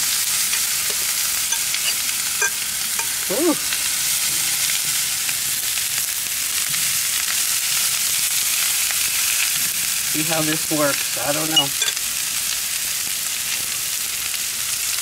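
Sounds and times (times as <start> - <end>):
vegetables sizzling on a griddle: 0.0 - 15.0.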